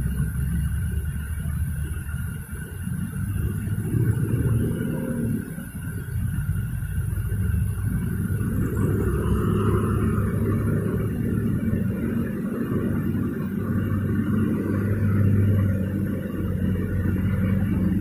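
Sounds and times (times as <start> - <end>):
road traffic engine hum: 0.0 - 18.0.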